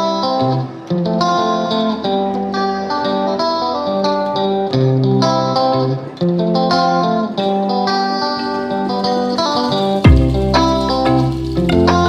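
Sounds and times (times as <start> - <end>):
plucked guitar melody: 0.0 - 12.0.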